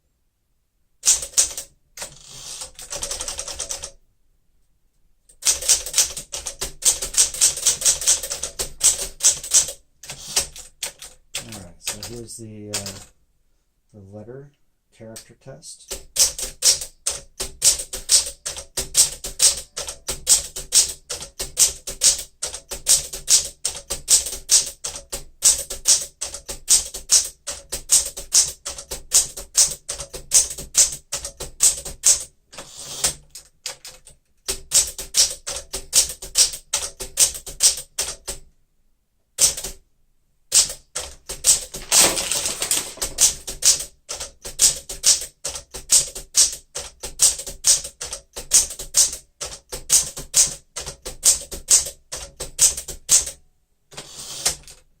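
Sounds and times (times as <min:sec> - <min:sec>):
manual typewriter typing fast: 0:01.0 - 0:04.0, 0:05.4 - 0:13.1, 0:15.8 - 0:38.4, 0:39.4 - 0:39.8, 0:40.5 - 0:54.9.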